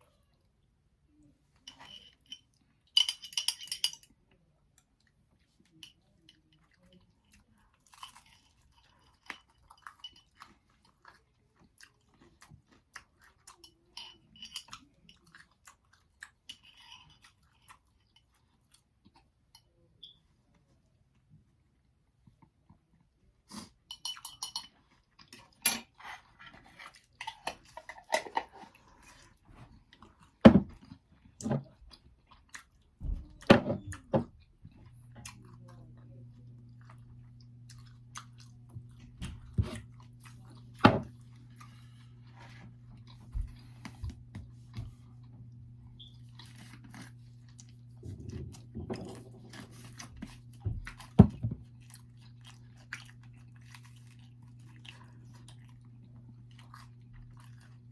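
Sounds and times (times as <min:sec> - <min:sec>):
chewing and crunching pizza: 0:04.1 - 0:23.9, 0:24.7 - 0:57.9.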